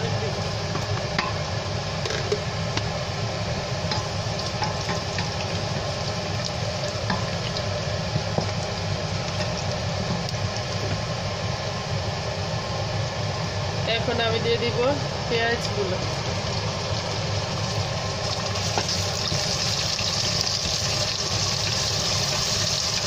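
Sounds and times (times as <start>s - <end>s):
steady low hum: 0.0s - 22.1s
spices sizzling in hot oil: 0.0s - 23.0s.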